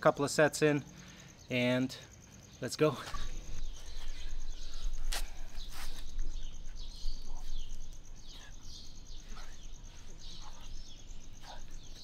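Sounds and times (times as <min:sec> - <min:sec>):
birds chirping: 0:00.0 - 0:12.0
insect trill: 0:00.0 - 0:12.0.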